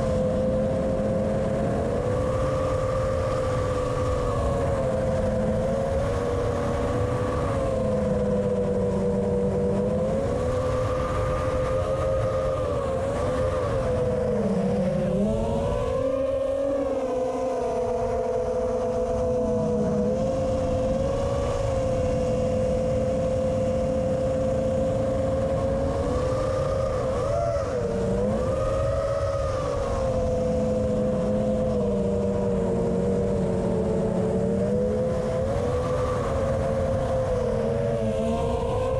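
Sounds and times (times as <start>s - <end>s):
drone propellers whining: 0.0s - 38.9s
wind rumble on microphone: 0.0s - 38.9s.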